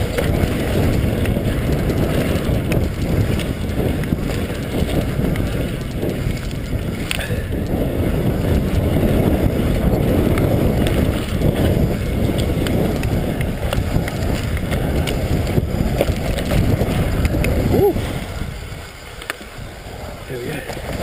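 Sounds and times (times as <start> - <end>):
bike rattles and clicks: 0.0 - 21.0
tyres running over dirt: 0.0 - 21.0
wind buffeting microphone: 0.0 - 21.0.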